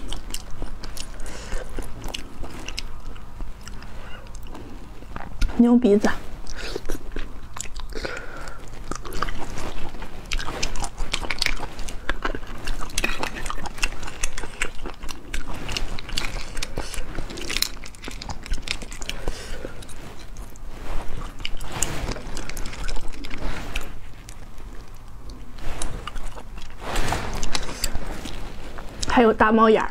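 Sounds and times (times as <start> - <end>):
chewing: 0.0 - 5.6, 6.2 - 29.2
sucking and biting: 0.0 - 5.6, 6.3 - 29.2.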